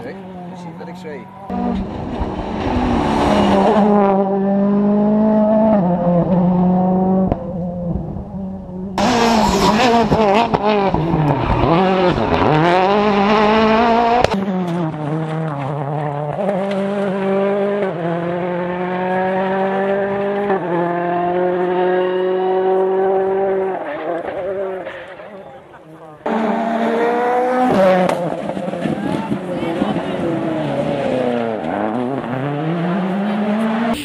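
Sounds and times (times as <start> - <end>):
rally car passing at high revs: 0.0 - 34.0
rally car accelerating hard: 1.5 - 34.0.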